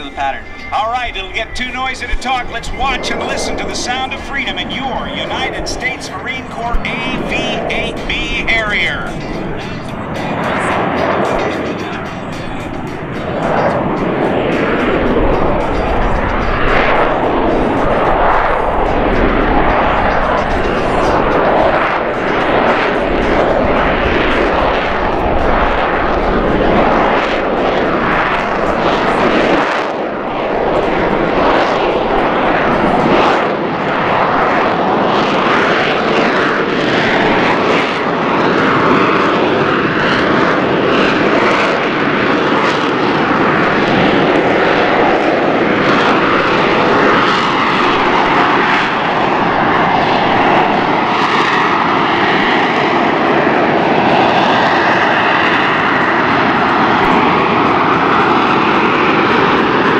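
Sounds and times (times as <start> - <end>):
jet engine roaring: 0.0 - 59.9
whining tone: 0.0 - 59.9.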